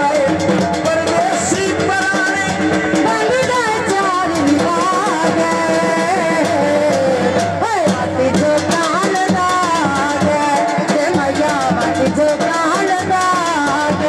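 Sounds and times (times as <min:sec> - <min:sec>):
drum beats: 0:00.0 - 0:14.0
folk music: 0:00.0 - 0:14.0.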